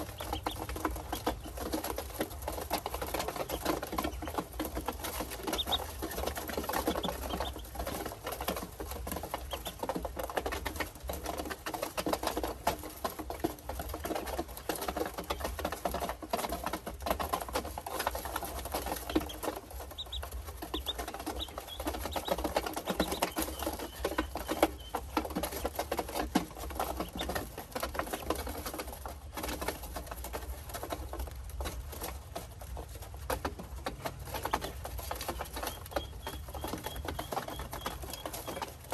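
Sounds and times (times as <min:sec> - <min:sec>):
ducklings pattering and scratching: 0:00.0 - 0:38.9
ducklings peeping: 0:00.0 - 0:38.9.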